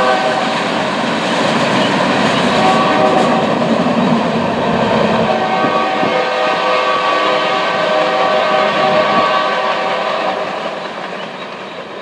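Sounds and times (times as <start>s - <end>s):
freight train rolling: 0.0s - 12.0s.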